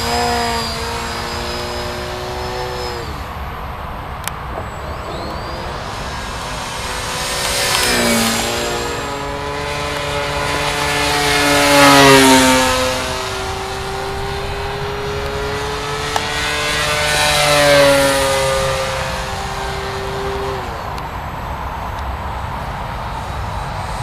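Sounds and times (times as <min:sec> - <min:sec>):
model plane motor flying past: 0:00.0 - 0:24.0.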